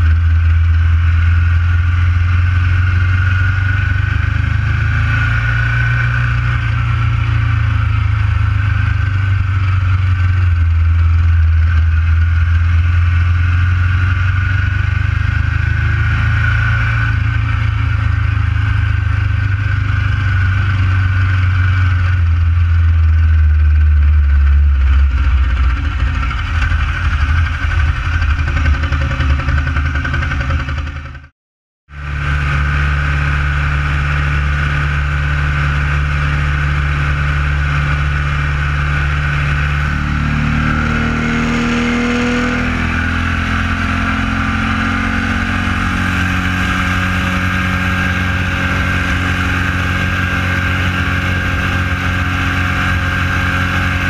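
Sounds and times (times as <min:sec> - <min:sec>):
motorcycle engine running: 0:00.0 - 0:31.3, 0:31.9 - 0:54.0.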